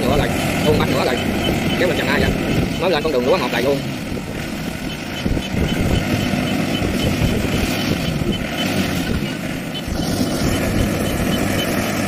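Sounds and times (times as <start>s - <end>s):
diesel engine running: 0.0s - 12.0s
faint high whine: 0.0s - 12.0s.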